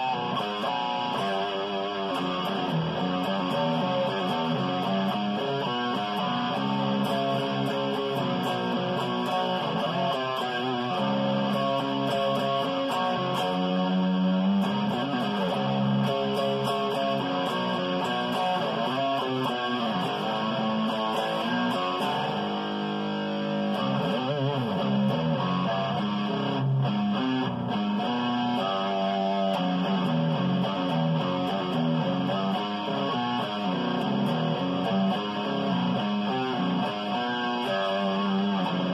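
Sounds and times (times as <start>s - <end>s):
electric guitar picked notes: 0.0s - 38.9s.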